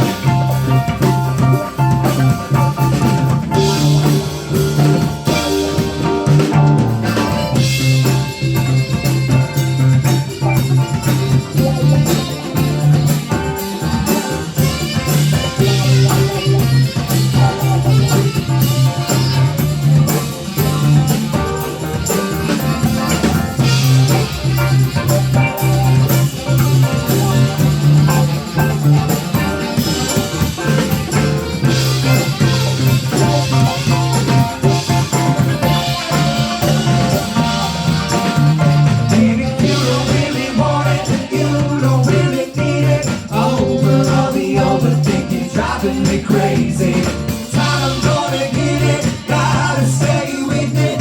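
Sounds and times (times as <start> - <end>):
band playing instrumental: 0.0 - 51.0
drum kit beat: 0.0 - 51.0
repeating bass line: 0.0 - 51.0.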